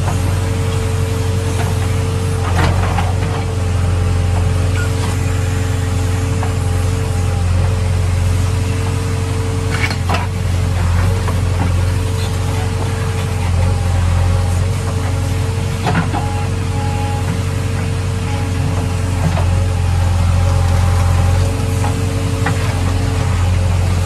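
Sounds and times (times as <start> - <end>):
diesel engine running: 0.0 - 24.0
hydraulic whine: 0.0 - 24.0.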